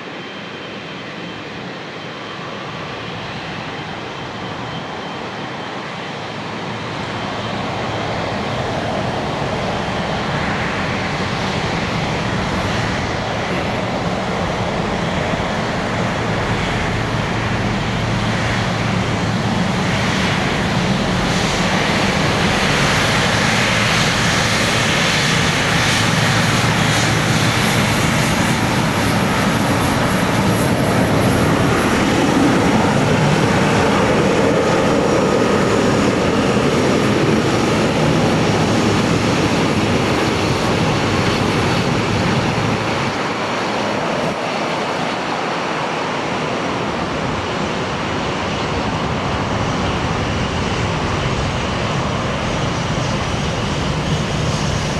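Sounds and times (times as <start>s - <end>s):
jet airliner taking off: 0.0s - 54.9s.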